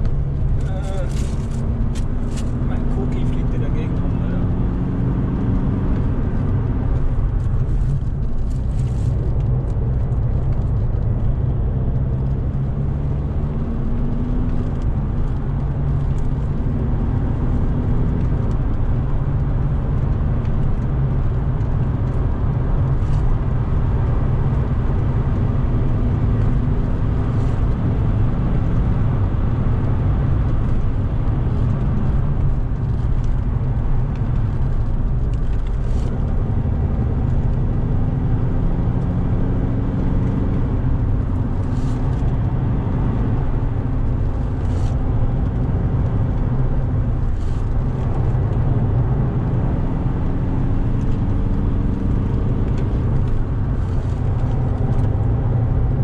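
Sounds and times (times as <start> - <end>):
diesel car engine revving: 0.0 - 56.0
road and tyre noise: 0.0 - 56.0.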